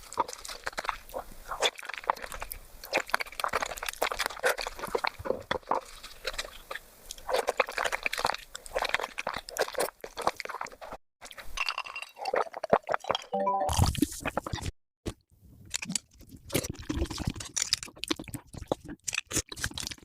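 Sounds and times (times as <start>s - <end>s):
wet chewing and crunching: 0.0s - 11.4s, 12.2s - 14.7s, 15.7s - 20.0s.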